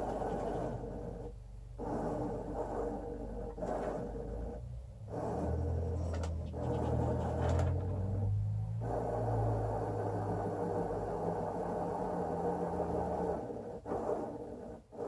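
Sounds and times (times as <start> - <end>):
steady motor whir: 0.0 - 15.0.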